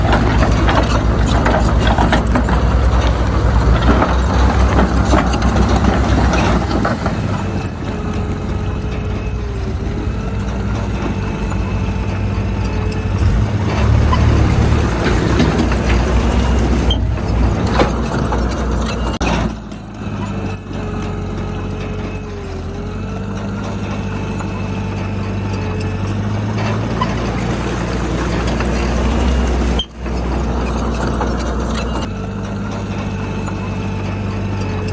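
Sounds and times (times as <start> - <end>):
diesel machinery engine working: 0.0 - 34.9.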